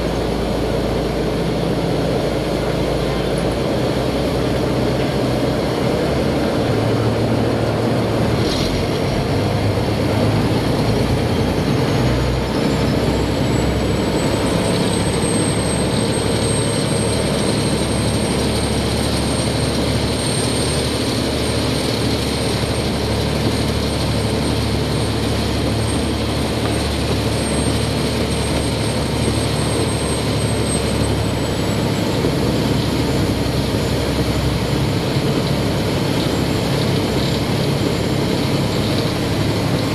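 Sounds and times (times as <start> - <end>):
boat diesel engine running: 0.0 - 39.9.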